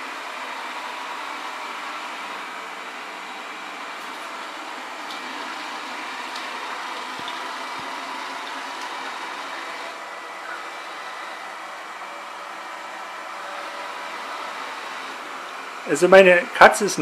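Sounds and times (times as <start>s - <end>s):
robot vacuum fan whirring: 0.0s - 16.4s.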